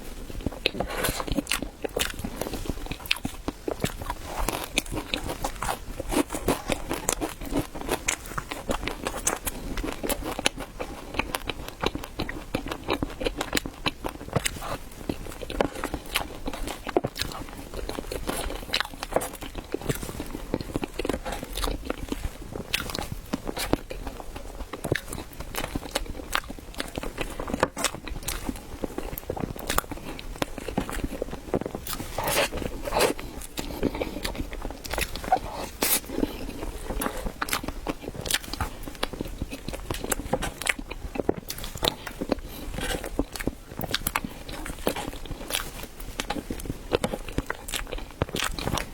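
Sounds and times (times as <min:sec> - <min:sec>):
bread being bitten and chewed: 0:00.0 - 0:48.9.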